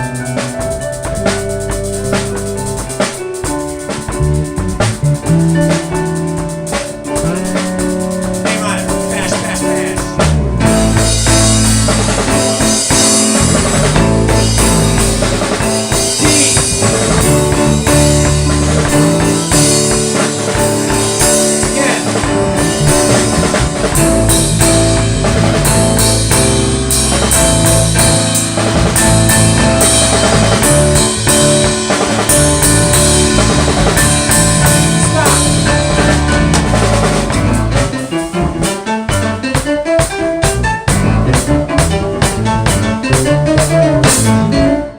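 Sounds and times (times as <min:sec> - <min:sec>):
bass drum thumps: 0:00.0 - 0:44.8
band playing loudly: 0:00.0 - 0:44.9.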